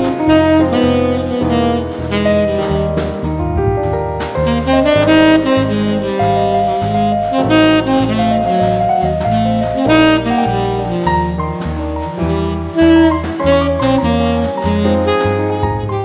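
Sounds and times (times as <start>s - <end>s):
jazz music: 0.0s - 16.0s.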